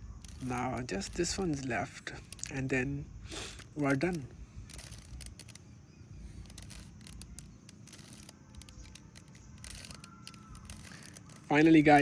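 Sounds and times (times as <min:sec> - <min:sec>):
plastic puzzle cube clicking: 0:00.0 - 0:12.0.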